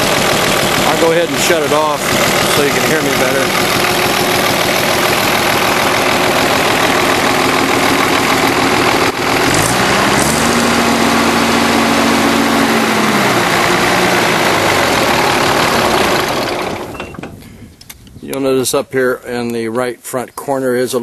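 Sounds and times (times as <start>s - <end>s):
diesel engine running: 0.0s - 17.5s.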